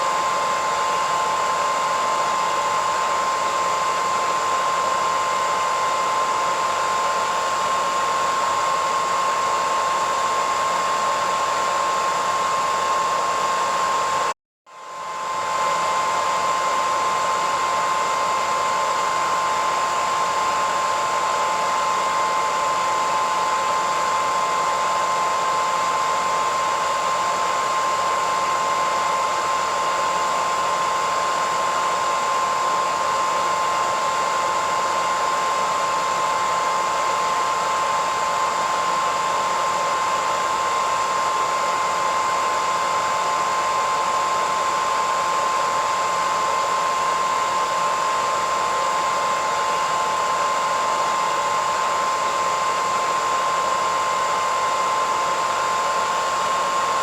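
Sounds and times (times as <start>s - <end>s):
hairdryer running: 0.0s - 57.0s.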